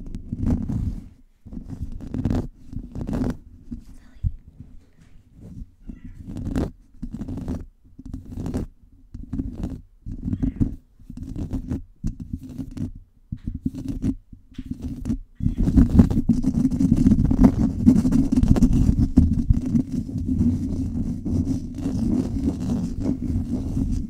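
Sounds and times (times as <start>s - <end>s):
microphone being scratched: 0.0s - 24.0s.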